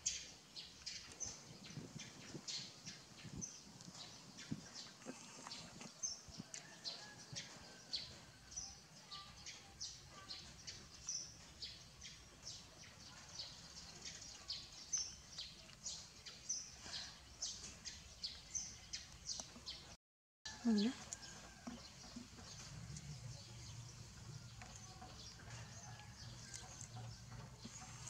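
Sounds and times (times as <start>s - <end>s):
small birds chirping: 0.0s - 20.0s, 20.6s - 28.0s.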